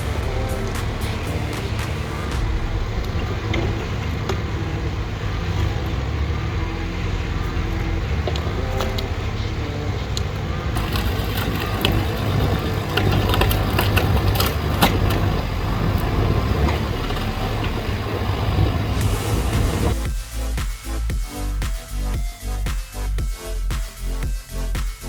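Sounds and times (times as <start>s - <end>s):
diesel engine rumble: 0.0s - 24.7s.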